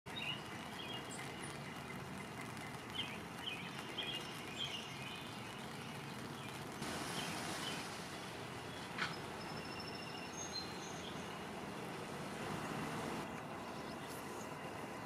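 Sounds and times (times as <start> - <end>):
birds chirping: 0.1 - 15.0
steady outdoor hiss: 0.1 - 15.0.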